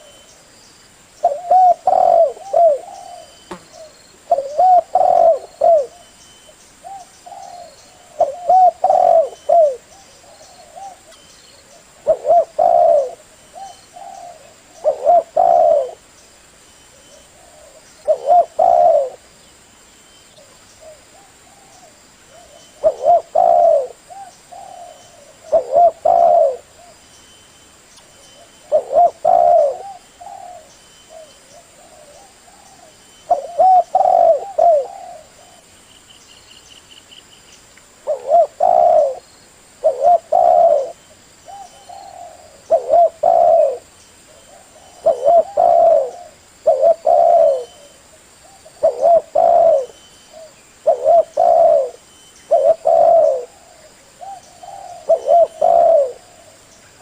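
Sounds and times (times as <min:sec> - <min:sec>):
dove cooing: 0:01.2 - 0:06.2, 0:06.8 - 0:16.1, 0:16.9 - 0:19.3, 0:20.4 - 0:27.0, 0:28.4 - 0:35.7, 0:38.0 - 0:39.2, 0:39.8 - 0:57.0.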